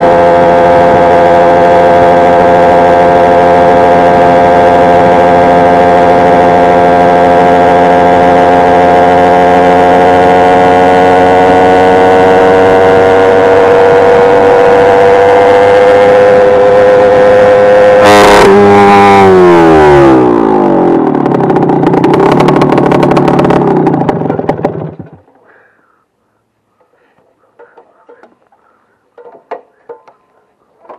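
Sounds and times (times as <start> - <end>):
moped engine buzzing whine: 0.0 - 26.0, 26.7 - 30.9.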